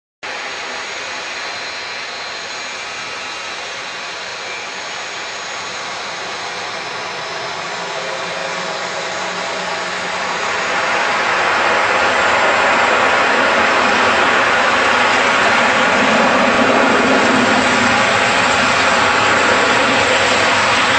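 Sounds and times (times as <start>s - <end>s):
jet engines roaring: 0.2s - 20.9s.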